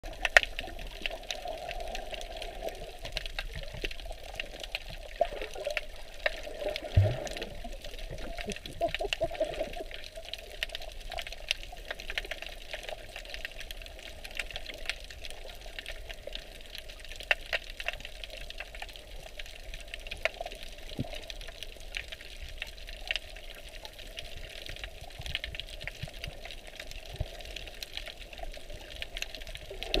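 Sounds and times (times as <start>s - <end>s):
muffled underwater wash: 0.0s - 30.0s
sharp underwater clicks and crackles: 0.0s - 30.0s.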